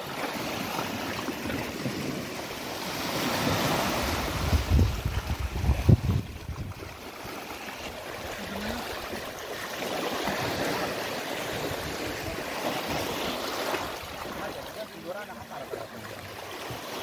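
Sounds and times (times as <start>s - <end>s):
river rushing against bank: 0.0s - 17.0s.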